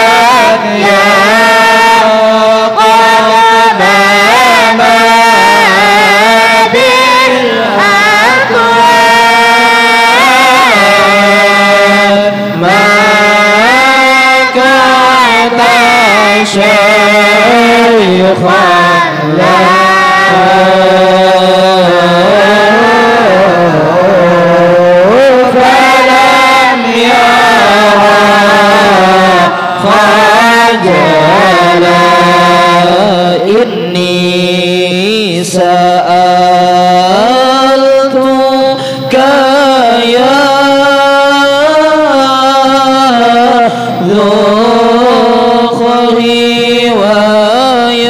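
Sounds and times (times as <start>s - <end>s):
man singing into a microphone: 0.0s - 48.0s.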